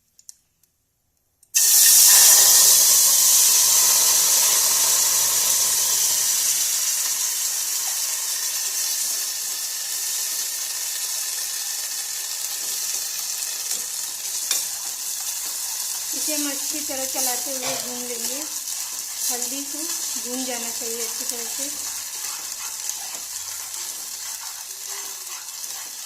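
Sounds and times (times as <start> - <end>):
paste sizzling in hot oil: 1.6 - 26.0.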